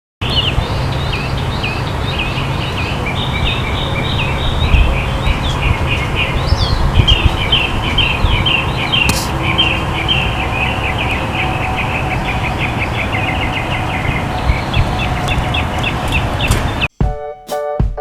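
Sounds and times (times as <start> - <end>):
continuous low rumble: 0.2 - 16.9
small birds chirping: 0.2 - 16.9.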